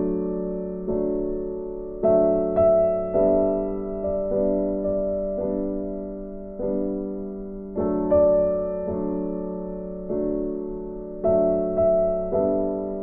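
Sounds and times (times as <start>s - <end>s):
slow instrumental music with soft chords: 0.0s - 13.0s.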